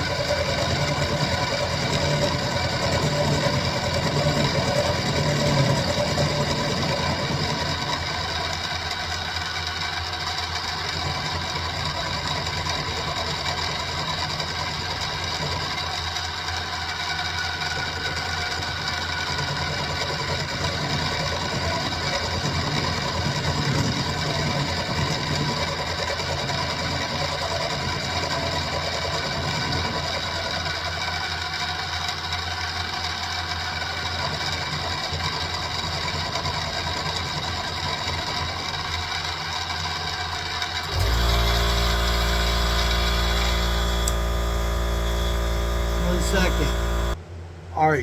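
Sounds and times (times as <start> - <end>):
milling machine whining: 0.0 - 47.2.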